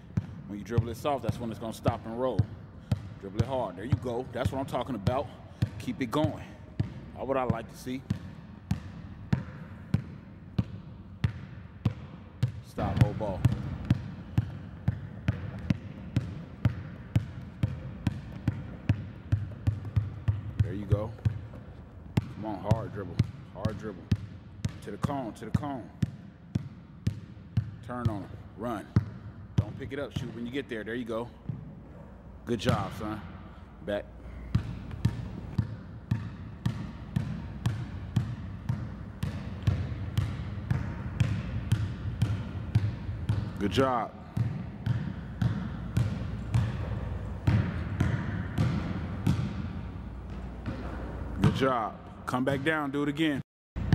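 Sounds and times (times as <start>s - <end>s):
basketball bouncing on wooden floor: 0.2s - 30.4s, 31.3s - 32.0s, 34.4s - 51.8s.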